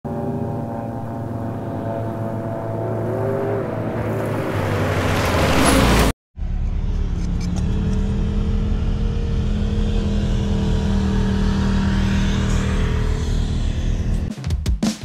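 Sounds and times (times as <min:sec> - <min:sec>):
motor vehicle engine running: 0:00.1 - 0:14.3
second engine: 0:00.1 - 0:14.3.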